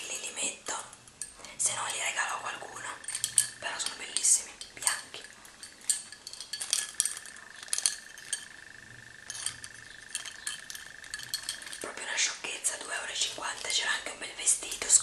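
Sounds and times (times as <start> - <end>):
earrings clicking and clinking: 0.0 - 15.0.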